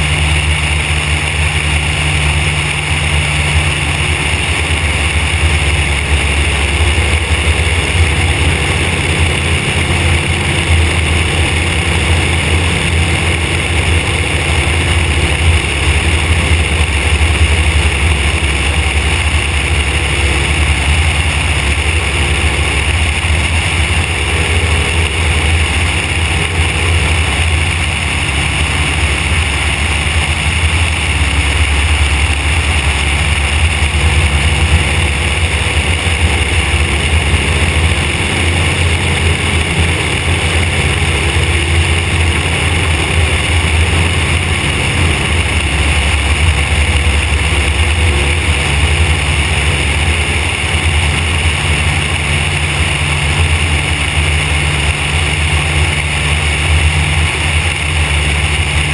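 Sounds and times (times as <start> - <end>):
light aircraft engine and propeller: 0.0 - 58.9.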